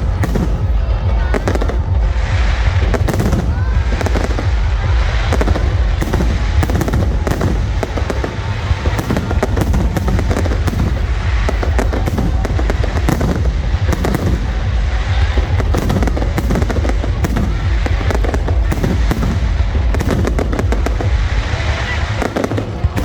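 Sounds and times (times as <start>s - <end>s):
fireworks bangs and crackling: 0.0s - 23.0s
low rumble: 0.0s - 23.0s.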